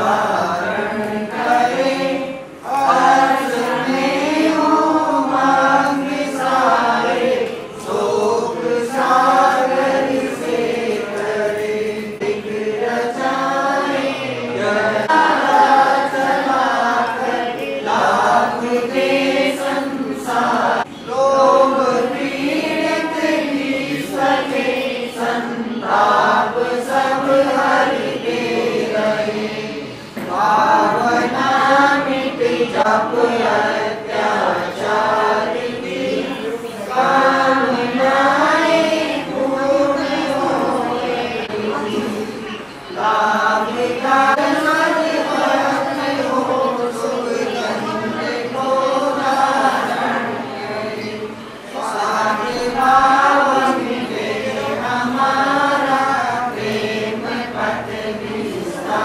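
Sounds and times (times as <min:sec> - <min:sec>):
voices chanting mantras: 0:00.0 - 0:59.0.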